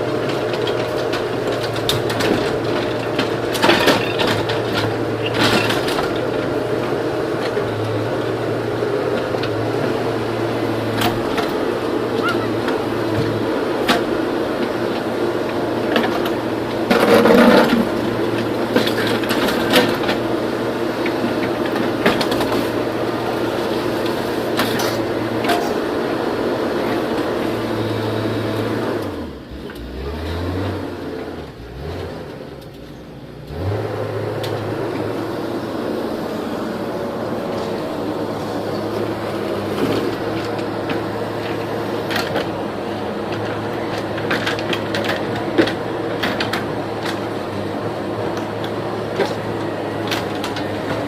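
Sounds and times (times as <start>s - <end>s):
diesel engine running under load: 0.0s - 51.0s.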